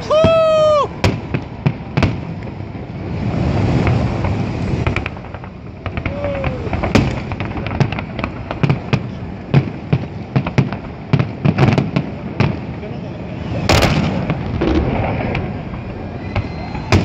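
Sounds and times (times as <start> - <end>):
fireworks bangs and pops: 0.0 - 17.0
fireworks crackle: 0.0 - 17.0
rolling rumble: 0.0 - 17.0.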